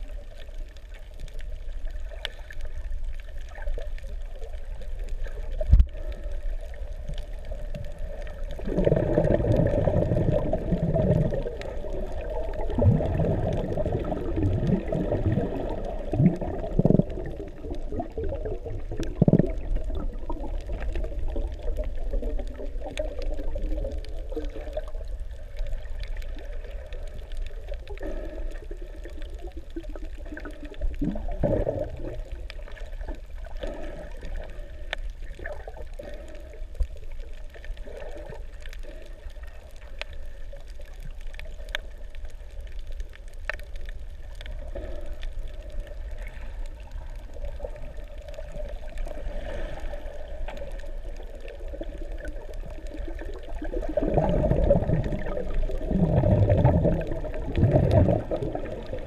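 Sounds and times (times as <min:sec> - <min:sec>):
underwater water sloshing: 0:00.0 - 0:59.0.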